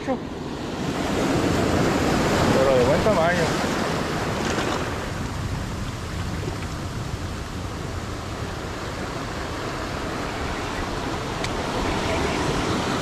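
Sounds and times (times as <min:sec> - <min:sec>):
surf washing over rocks: 0:00.0 - 0:13.0
wind rumbling on microphone: 0:00.0 - 0:13.0.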